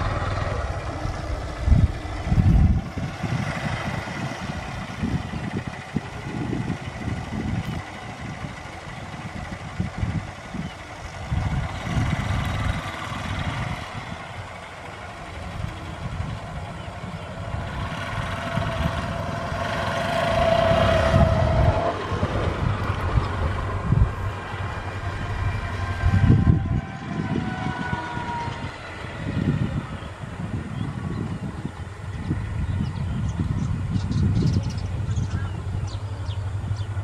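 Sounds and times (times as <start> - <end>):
diesel locomotive rumble: 0.0 - 37.0.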